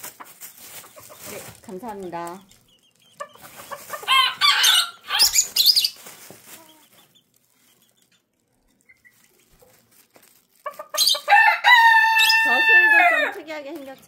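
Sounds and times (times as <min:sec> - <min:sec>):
chickens squawking: 0:00.0 - 0:09.6, 0:10.5 - 0:14.0.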